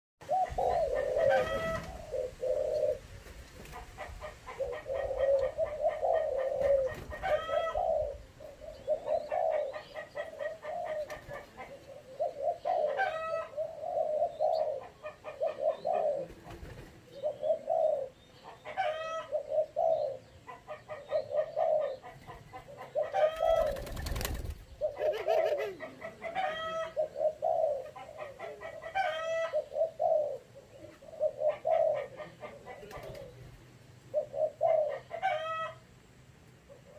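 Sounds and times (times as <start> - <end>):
dove low cooing: 0.2 - 36.9.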